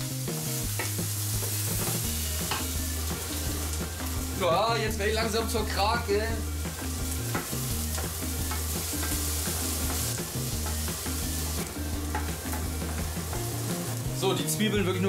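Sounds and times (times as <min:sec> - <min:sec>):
onions sizzling in a frying pan: 0:00.0 - 0:15.0.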